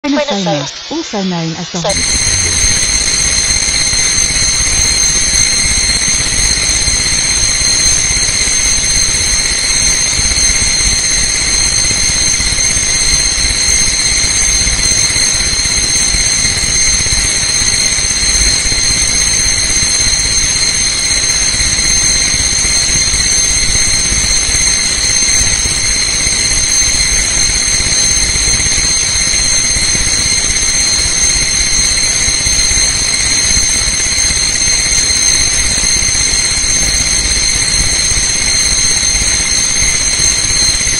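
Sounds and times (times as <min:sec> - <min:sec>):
high whining tones: 0:00.0 - 0:40.9
loud steady hiss: 0:00.0 - 0:40.9.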